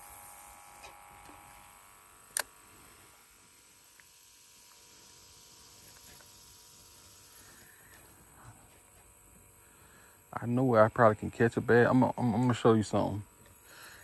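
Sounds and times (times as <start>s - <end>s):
faint background hum: 0.0s - 14.0s.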